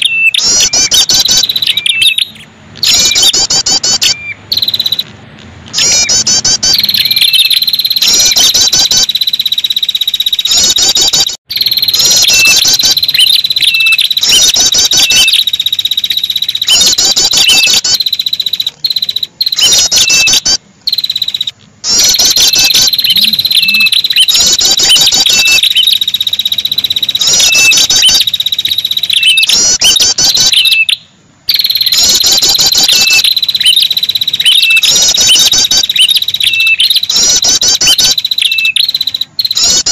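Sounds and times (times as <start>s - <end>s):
bird trilled phrases: 0.0s - 39.9s.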